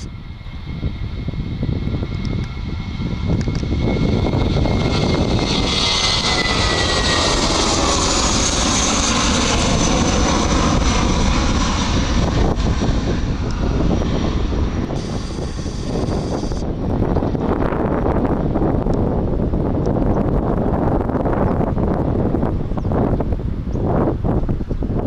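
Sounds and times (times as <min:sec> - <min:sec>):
jet airliner engines passing: 0:00.0 - 0:25.0.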